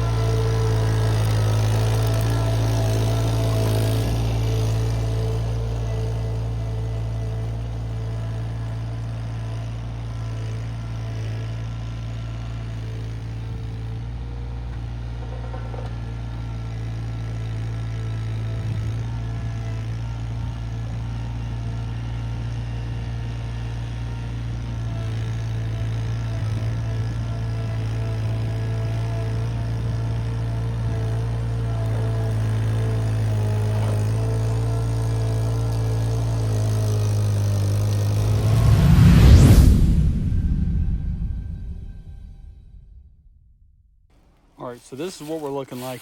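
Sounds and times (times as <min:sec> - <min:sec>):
engine running with low hum: 0:00.0 - 0:46.0.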